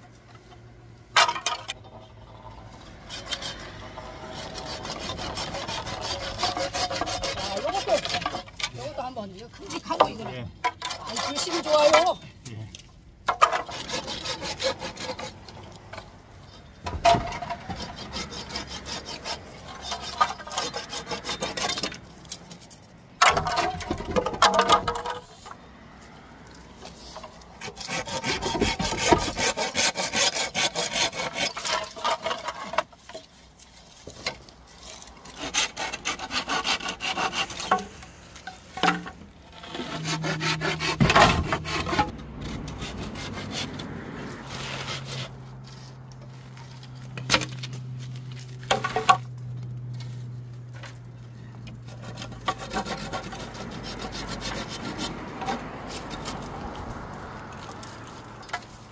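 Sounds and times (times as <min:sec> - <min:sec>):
hand saw cutting bamboo: 0:02.8 - 0:12.2, 0:13.3 - 0:16.2, 0:16.9 - 0:22.6, 0:23.2 - 0:25.6, 0:26.4 - 0:49.3, 0:51.6 - 0:58.9.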